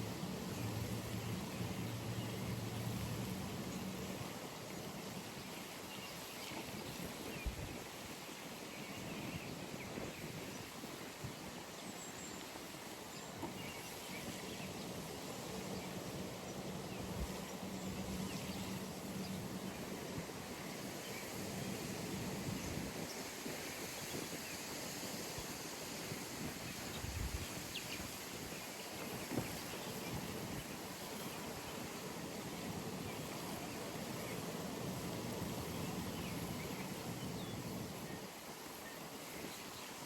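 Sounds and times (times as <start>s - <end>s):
steady outdoor hiss: 0.0s - 40.0s.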